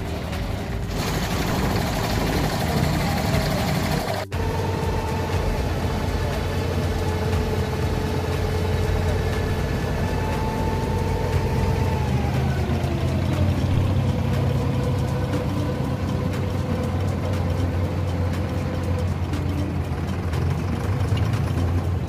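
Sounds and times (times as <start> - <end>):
boat diesel engine running: 0.0 - 22.0.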